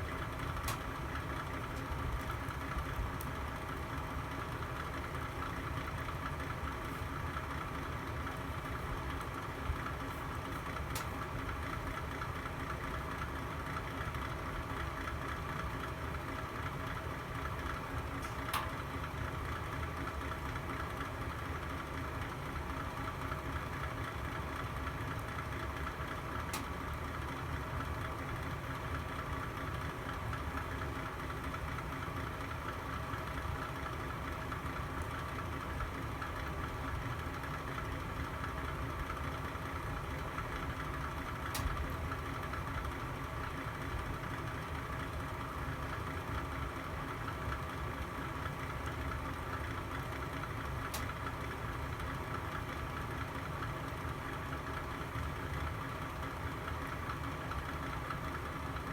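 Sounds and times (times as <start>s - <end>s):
fire burning in a fireplace: 0.0s - 58.6s.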